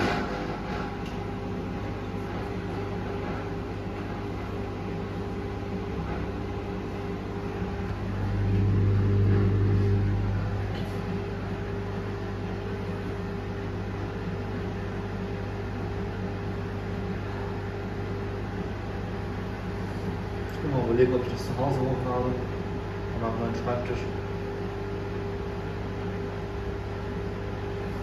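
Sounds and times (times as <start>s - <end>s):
washing machine motor hum: 0.0s - 28.0s.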